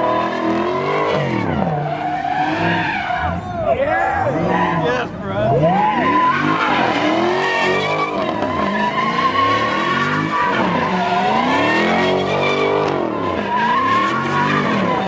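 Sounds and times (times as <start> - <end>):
car engine revving: 0.0 - 15.0
tyres squealing: 1.8 - 15.0.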